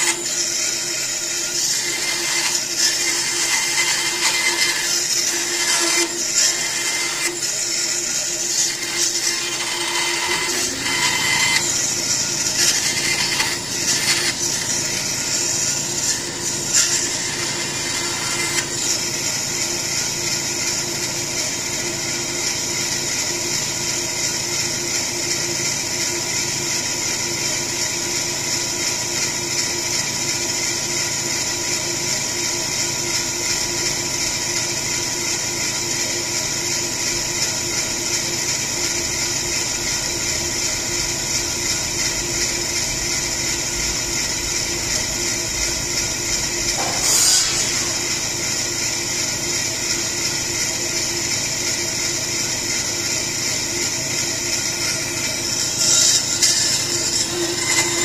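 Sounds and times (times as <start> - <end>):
bandsaw cutting wood: 0.0 - 22.6, 32.5 - 58.0
bandsaw running: 0.0 - 58.0.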